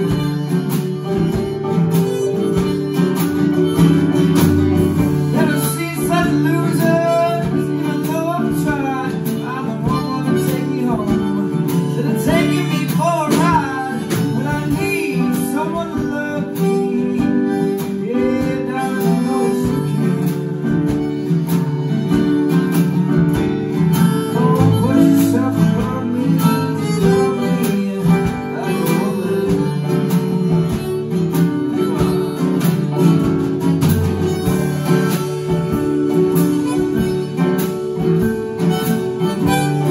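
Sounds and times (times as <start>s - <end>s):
drum kit: 0.0s - 39.9s
harmonica bending melody: 0.0s - 39.9s
keyboard: 0.0s - 39.9s
strummed acoustic guitar: 0.0s - 39.9s.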